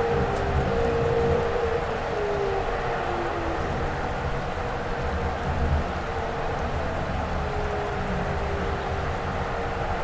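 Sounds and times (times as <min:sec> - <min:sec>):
tornado warning siren: 0:00.0 - 0:05.3, 0:06.0 - 0:10.0.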